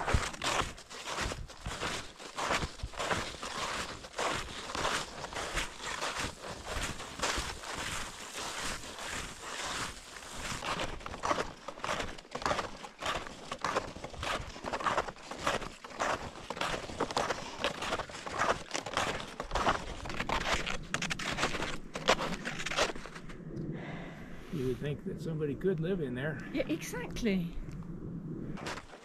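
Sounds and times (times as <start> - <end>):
snowshoe footsteps crunching snow: 0.0 - 23.2, 28.6 - 29.0.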